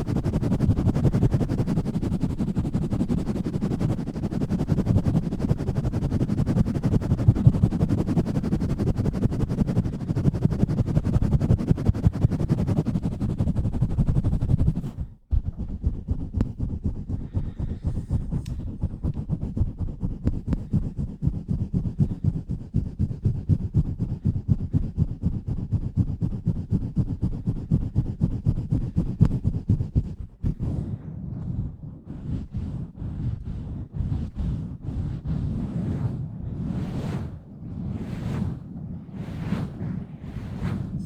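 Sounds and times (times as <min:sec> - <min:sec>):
hands rubbing microphone grille: 0:00.0 - 0:41.0.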